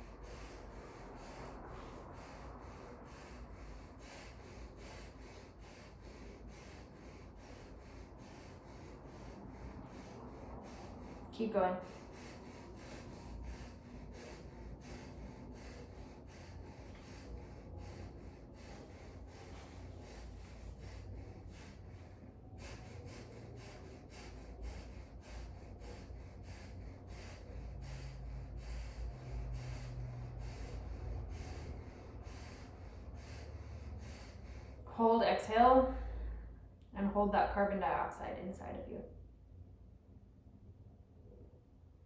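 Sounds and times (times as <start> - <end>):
person breathing through nose: 0.0 - 34.9
low steady rumble: 0.0 - 42.0.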